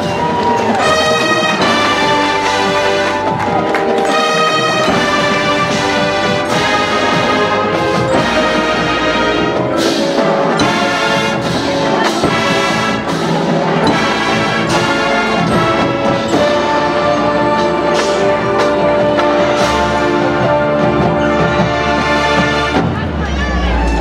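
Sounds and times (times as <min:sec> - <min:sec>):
marching band brass chords: 0:00.0 - 0:24.0
percussion hits: 0:00.0 - 0:24.0.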